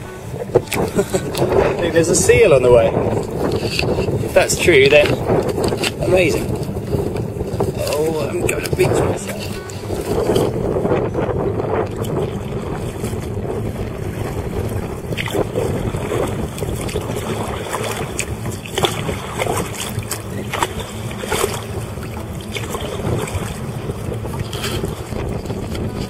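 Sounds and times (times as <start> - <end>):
paddle splashing in water: 0.0 - 26.0
wind rumbling on microphone: 0.0 - 26.0.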